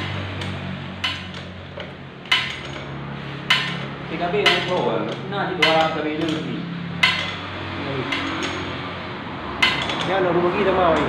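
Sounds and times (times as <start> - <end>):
metal tool clinking on metal: 0.0 - 8.8, 9.6 - 10.2.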